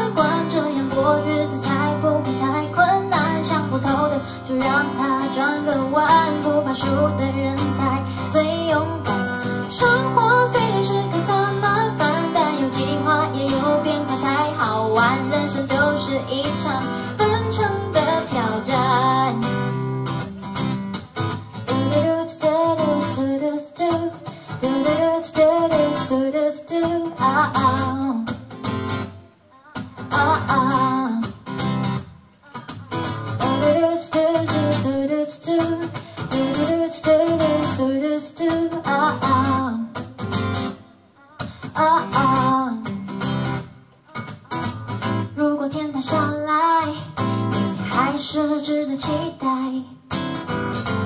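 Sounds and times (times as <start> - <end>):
woman singing: 0.0 - 19.8, 21.5 - 43.2, 44.1 - 50.2
strummed acoustic guitar: 0.0 - 51.0.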